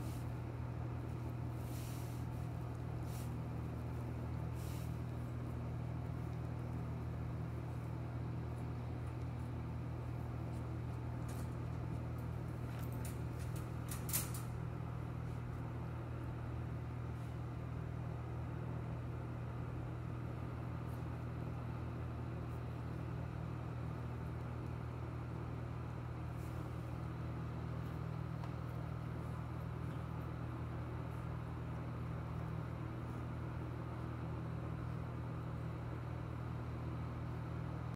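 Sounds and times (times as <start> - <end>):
low mechanical hum: 0.0 - 37.9.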